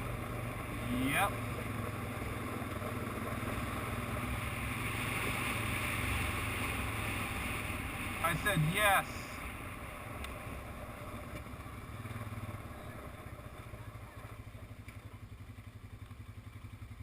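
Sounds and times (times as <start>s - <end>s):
atv engine idling: 0.0s - 8.4s, 9.0s - 17.0s.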